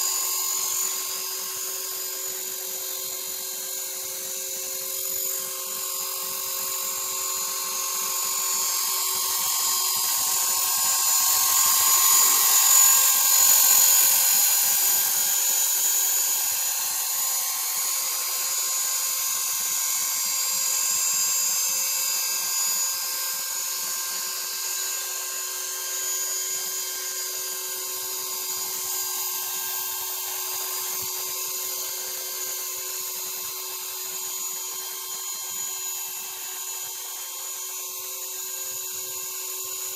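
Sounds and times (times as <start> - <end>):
rc helicopter motor whining: 0.0 - 39.9.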